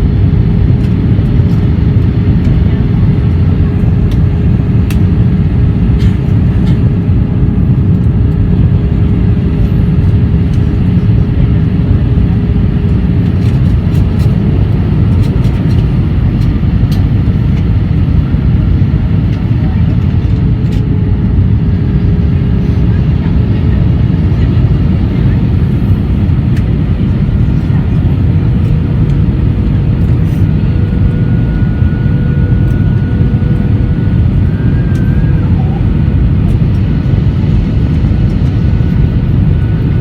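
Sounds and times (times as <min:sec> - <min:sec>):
constant hum: 0:00.0 - 0:40.0
jet engines and airflow roaring: 0:00.0 - 0:40.0.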